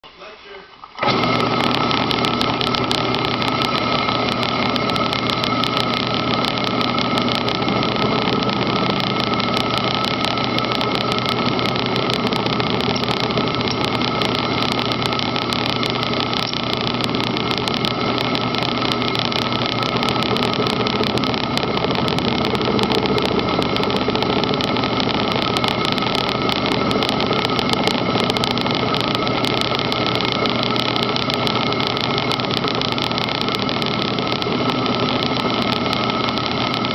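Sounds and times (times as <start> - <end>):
milling machine whine: 0.7 - 36.9
end mill cutting steel: 1.0 - 36.9.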